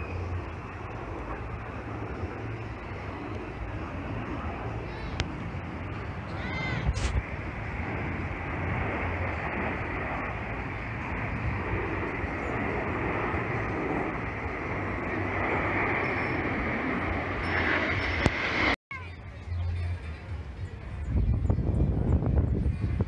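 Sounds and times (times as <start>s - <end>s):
jets passing overhead: 0.0s - 23.0s.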